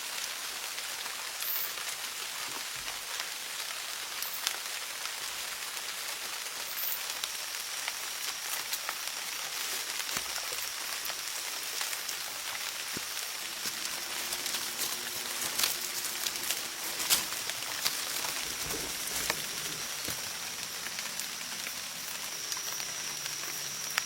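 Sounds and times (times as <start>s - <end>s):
crackling hiss of ticks: 0.0s - 24.0s.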